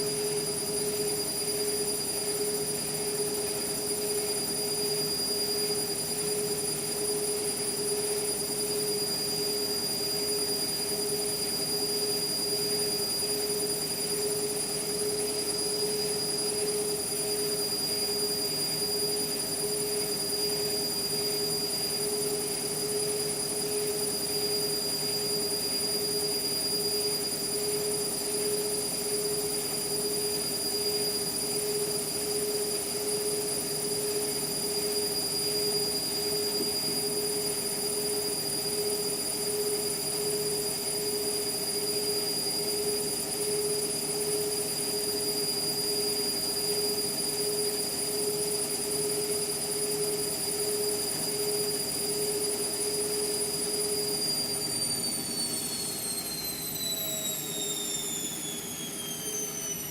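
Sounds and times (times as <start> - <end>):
washing machine motor whine: 0.0 - 59.9.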